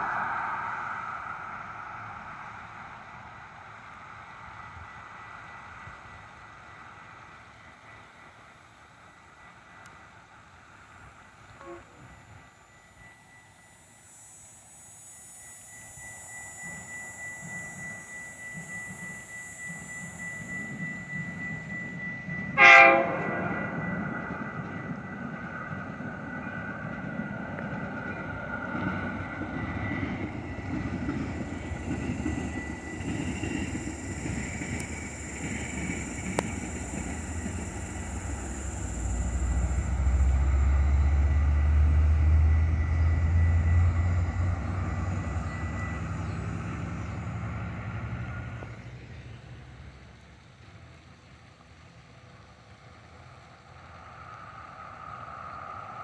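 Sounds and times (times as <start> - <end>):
train passing rumble: 0.0 - 56.0.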